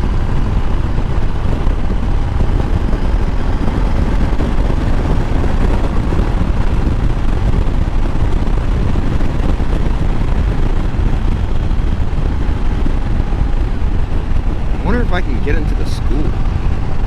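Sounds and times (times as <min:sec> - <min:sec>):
motorcycle engine and exhaust: 0:00.0 - 0:17.0
wind rush on microphone: 0:00.0 - 0:17.0.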